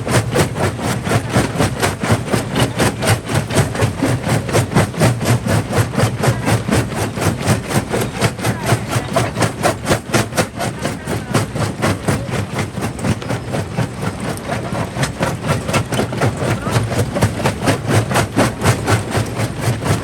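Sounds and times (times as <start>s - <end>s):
jaw crusher rhythmic pulse: 0.0s - 20.0s.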